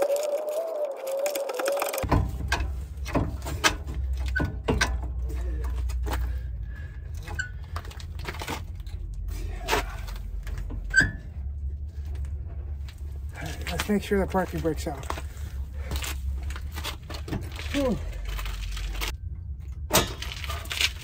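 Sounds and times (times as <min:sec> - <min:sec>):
steady low rumble: 0:02.0 - 0:21.0.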